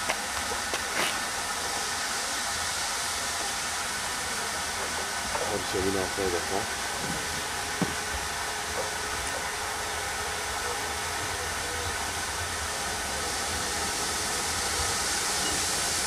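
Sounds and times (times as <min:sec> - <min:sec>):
low rumble of locomotive: 0:00.0 - 0:16.0
steam locomotive hissing: 0:00.0 - 0:16.0.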